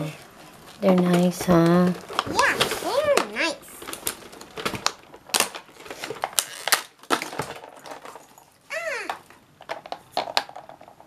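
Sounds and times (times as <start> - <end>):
plastic toy pieces clattering: 2.0 - 11.0.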